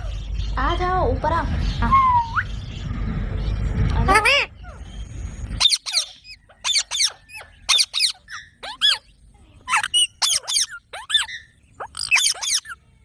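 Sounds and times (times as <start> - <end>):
parakeets calling: 0.0 - 13.0.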